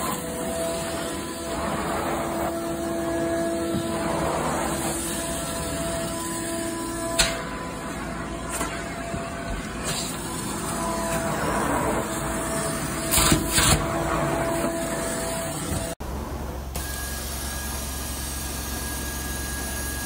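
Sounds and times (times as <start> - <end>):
carpet cleaner vacuum suction: 0.0 - 16.0, 16.8 - 20.0.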